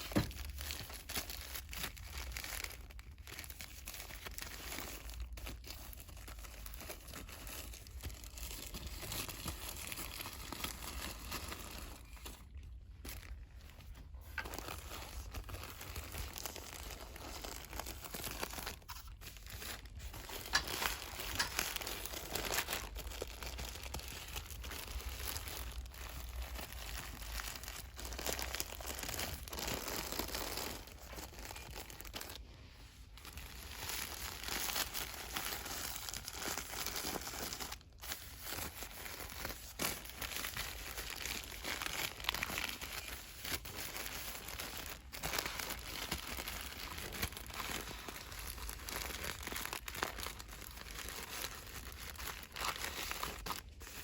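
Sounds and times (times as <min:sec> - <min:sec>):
packaging crinkling: 0:00.0 - 0:54.0.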